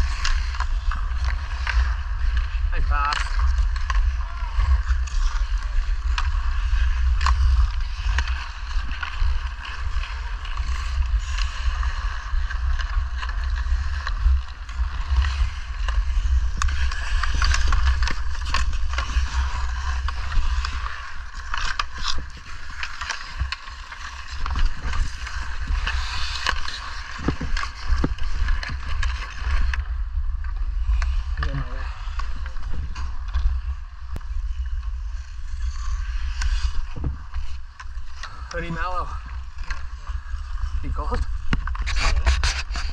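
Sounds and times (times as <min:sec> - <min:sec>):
hockey sticks and puck clacking: 0:00.0 - 0:42.9
skates scraping on ice: 0:00.0 - 0:42.9.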